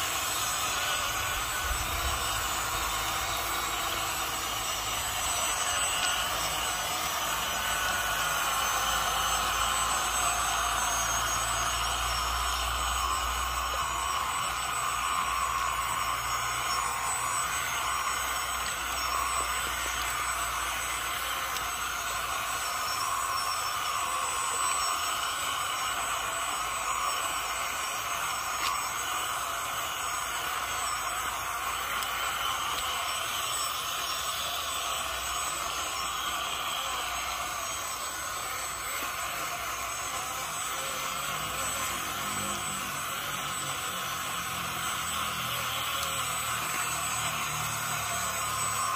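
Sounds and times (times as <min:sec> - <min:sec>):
toy truck motor whining: 0:00.0 - 0:48.9.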